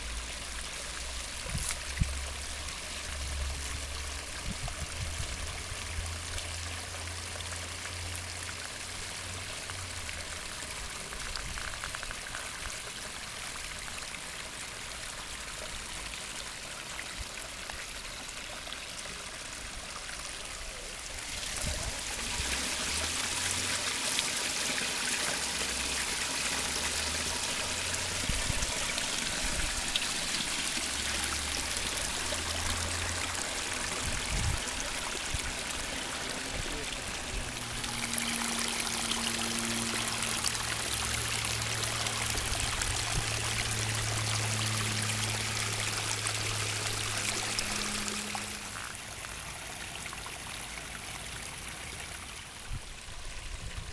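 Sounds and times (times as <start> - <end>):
water splashing over rocks: 0.0 - 53.1.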